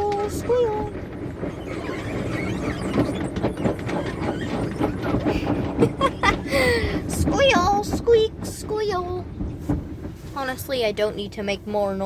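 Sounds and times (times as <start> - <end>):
car wash brushes squeaking: 0.0 - 12.0.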